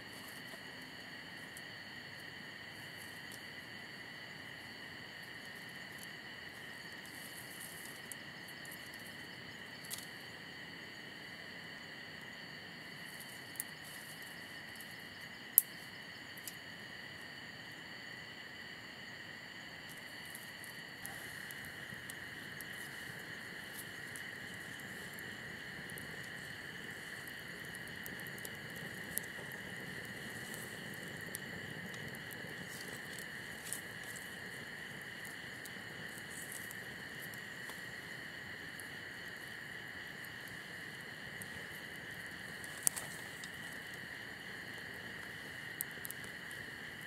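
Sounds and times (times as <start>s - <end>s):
sharp pops from burning sticks: 0.0s - 10.5s, 12.8s - 16.6s, 19.7s - 47.0s
campfire crackling: 0.0s - 47.0s
crickets trilling: 0.0s - 47.0s.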